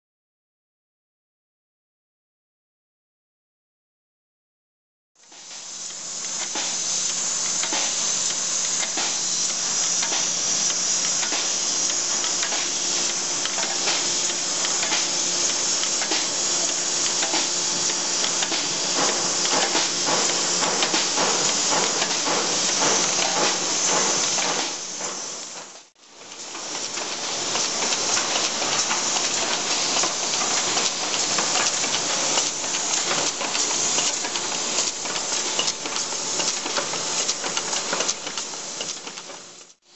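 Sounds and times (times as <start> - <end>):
machinery hissing: 5.2 - 39.6
rapid mechanical clicking and rattling: 5.3 - 39.8.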